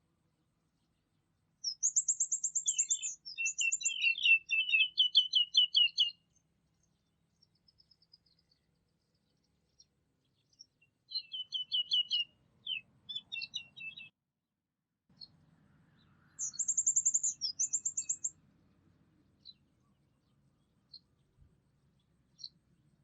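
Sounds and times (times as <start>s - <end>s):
songbirds singing: 0.7s - 14.2s, 15.1s - 23.0s.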